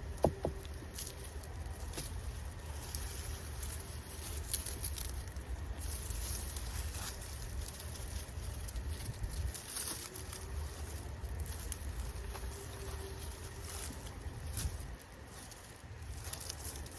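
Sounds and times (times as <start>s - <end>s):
rustling of dry plants and soil: 0.0s - 16.9s.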